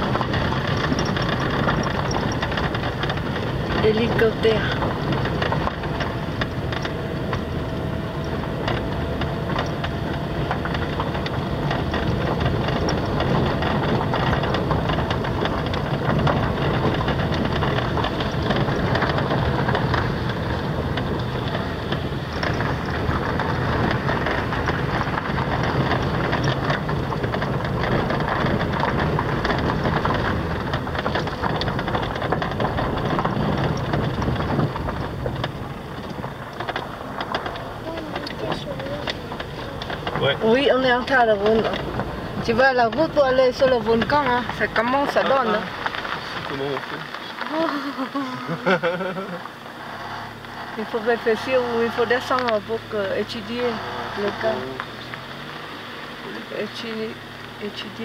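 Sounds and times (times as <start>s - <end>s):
knocks and rattles in car cabin: 0.0s - 47.2s
tyre and road noise: 0.0s - 58.0s.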